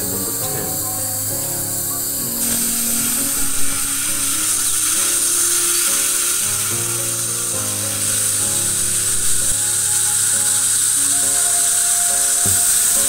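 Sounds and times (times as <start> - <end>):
background music: 0.0 - 13.0
dental drill whining: 0.0 - 13.0.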